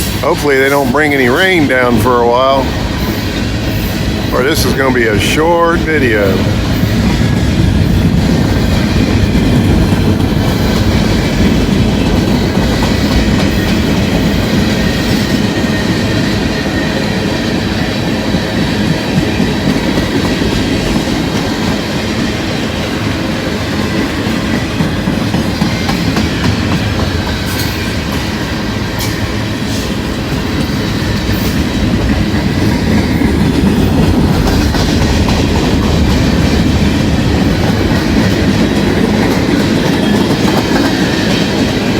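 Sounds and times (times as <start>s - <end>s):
clickety-clack over rail joints: 0.0s - 41.9s
freight train rumbling on rails: 0.0s - 41.9s.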